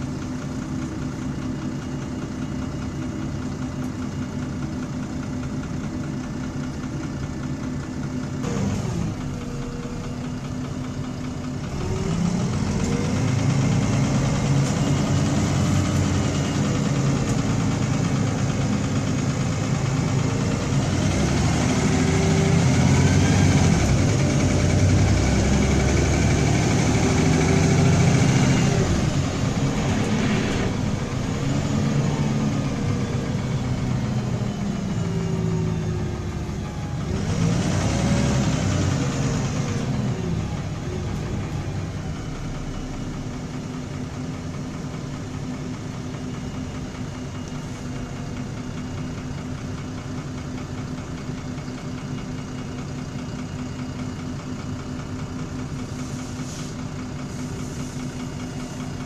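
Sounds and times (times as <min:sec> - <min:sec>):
rattling bus diesel engine: 0:00.0 - 0:59.0.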